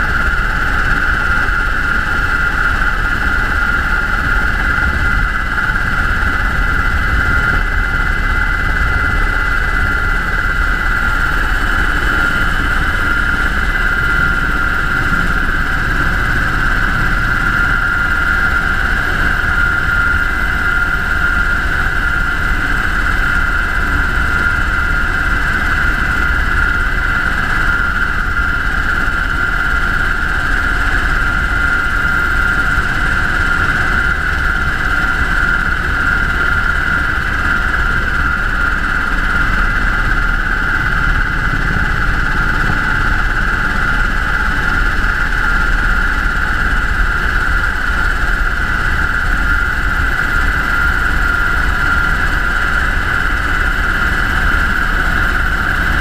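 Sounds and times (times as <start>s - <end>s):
helicopter whine and rumble: 0.0s - 56.0s.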